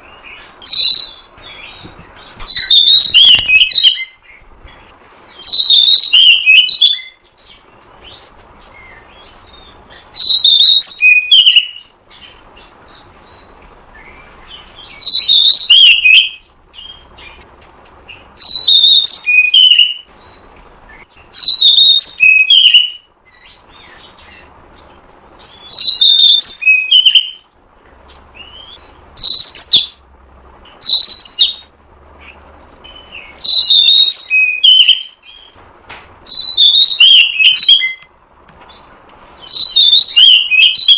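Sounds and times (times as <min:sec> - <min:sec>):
bird singing whistled phrases: 0:00.3 - 0:04.4, 0:05.1 - 0:17.4, 0:18.1 - 0:24.5, 0:25.4 - 0:27.4, 0:28.4 - 0:30.0, 0:30.8 - 0:31.7, 0:32.9 - 0:35.6, 0:36.2 - 0:38.1, 0:38.7 - 0:40.9.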